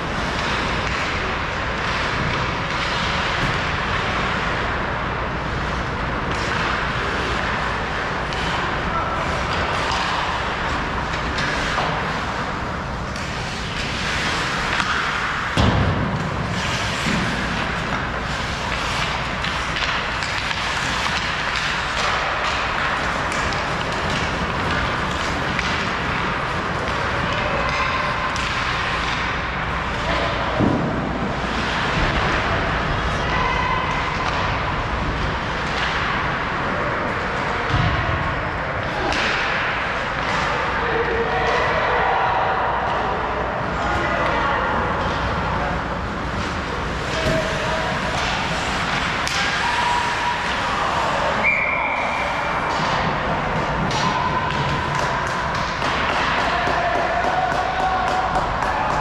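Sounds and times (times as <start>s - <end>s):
hockey play noise: 0.0s - 59.0s.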